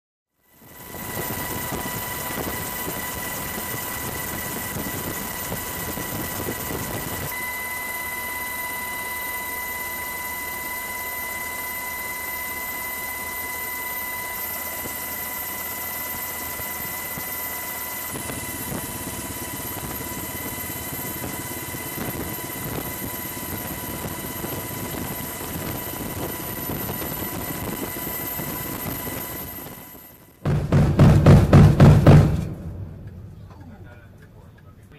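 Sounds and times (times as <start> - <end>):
helicopter engine and rotor: 0.4 - 30.4.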